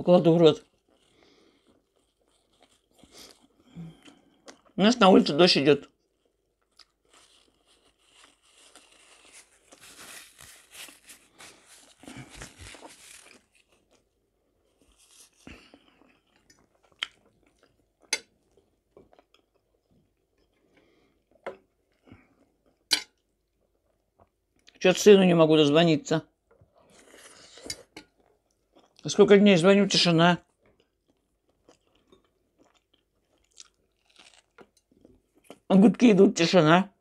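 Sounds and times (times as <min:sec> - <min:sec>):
person chewing food: 0:00.6 - 0:04.8, 0:05.9 - 0:24.8, 0:26.4 - 0:29.1, 0:30.4 - 0:35.7.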